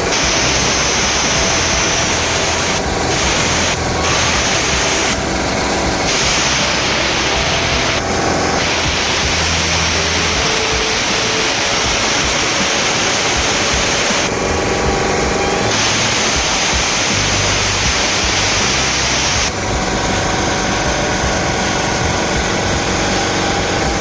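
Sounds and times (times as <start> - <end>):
compressed air hissing: 0.0 - 24.0.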